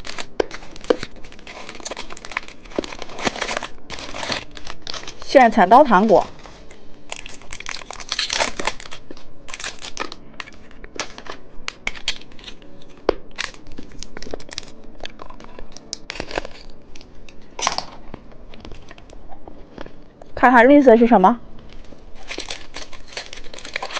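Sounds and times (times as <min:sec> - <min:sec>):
candy packaging crinkling: 0:00.0 - 0:20.1, 0:21.6 - 0:23.9.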